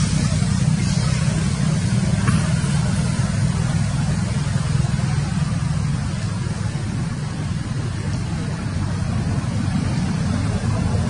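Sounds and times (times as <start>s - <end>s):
faint hiss: 0.0s - 11.0s
steady low rumble: 0.0s - 11.0s.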